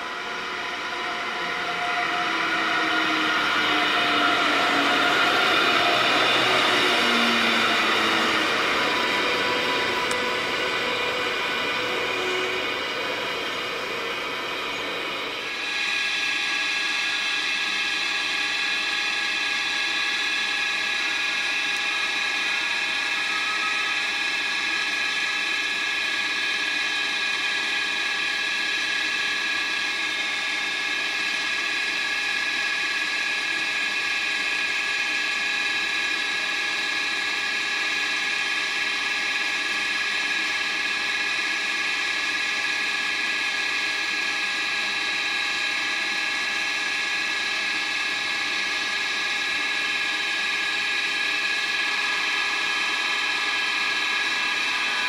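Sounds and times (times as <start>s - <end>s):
locomotive high-pitched whine: 0.0s - 55.0s.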